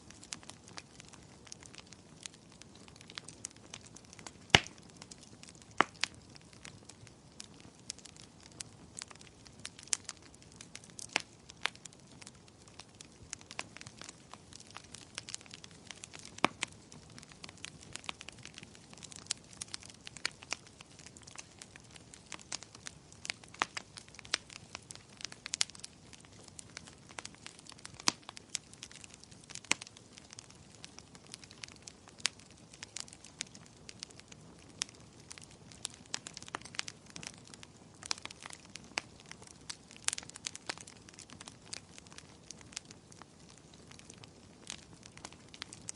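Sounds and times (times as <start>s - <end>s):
faint hiss of burning: 0.0s - 45.9s
wood fire crackling and popping: 0.0s - 45.9s.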